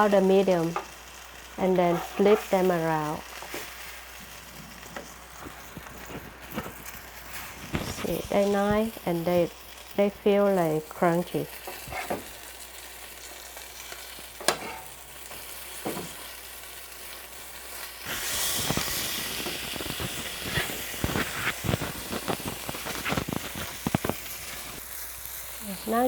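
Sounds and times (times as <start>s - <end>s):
fish frying in oil: 0.0s - 26.0s
sharp crackles: 0.0s - 26.0s.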